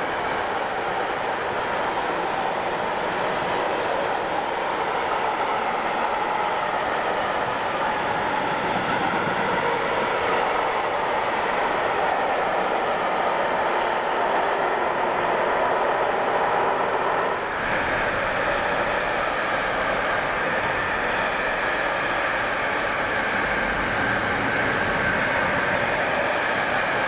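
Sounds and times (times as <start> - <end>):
freight train rolling past: 0.0 - 27.0
passenger train moving slowly: 0.0 - 27.0.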